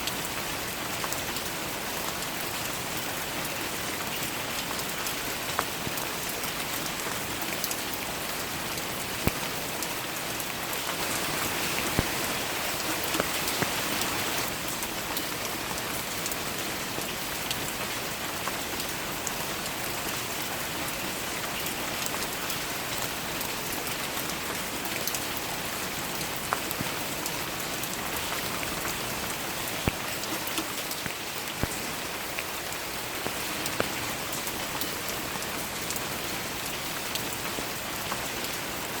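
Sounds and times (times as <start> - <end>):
sharp water drips: 0.0 - 38.9
rain falling on leaves: 0.0 - 39.0.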